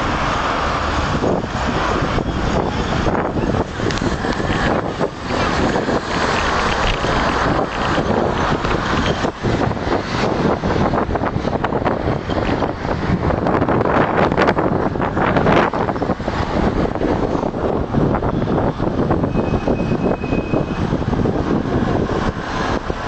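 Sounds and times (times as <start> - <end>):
street traffic: 0.0 - 23.0
wind buffeting microphone: 0.0 - 23.0.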